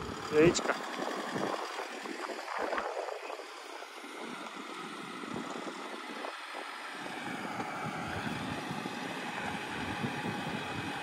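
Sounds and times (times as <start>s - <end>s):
vehicle engine running: 0.0s - 11.0s
wind noise on microphone: 0.0s - 11.0s.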